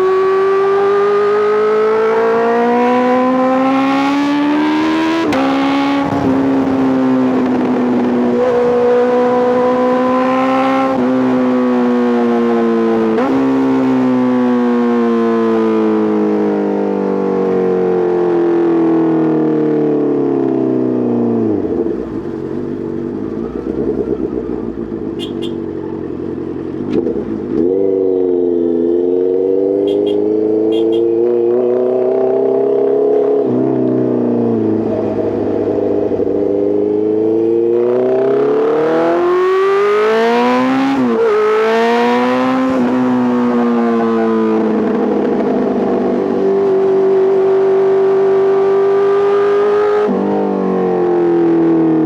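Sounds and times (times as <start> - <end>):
motorcycle engine revving: 0.0 - 19.3, 20.6 - 52.0.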